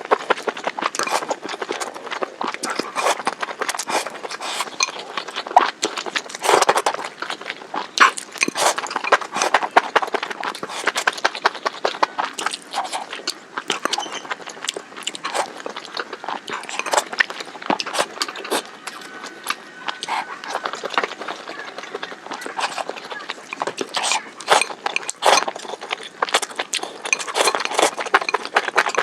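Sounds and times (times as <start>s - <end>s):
wet chewing and mouth smacks: 0.0s - 29.0s.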